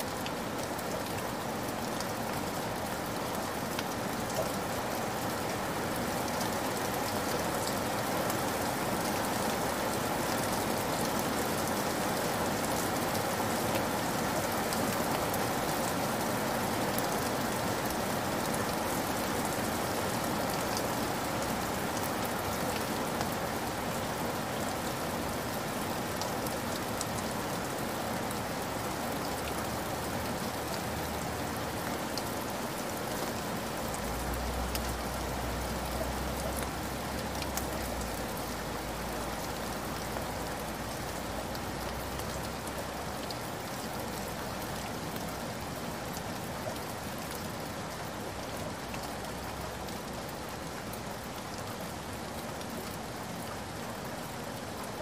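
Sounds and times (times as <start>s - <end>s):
heavy rain splashing on ground: 0.0s - 55.0s.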